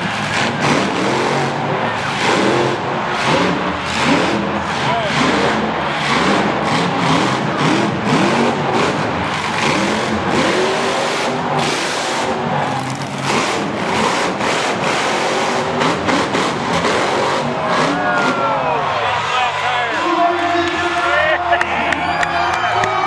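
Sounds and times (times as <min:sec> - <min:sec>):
truck engine revving: 0:00.0 - 0:22.7.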